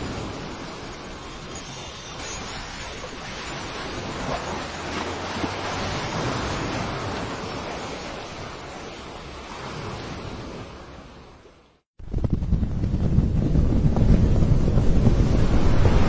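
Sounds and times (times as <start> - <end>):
ocean surf washing: 0.0 - 11.8, 13.1 - 16.0.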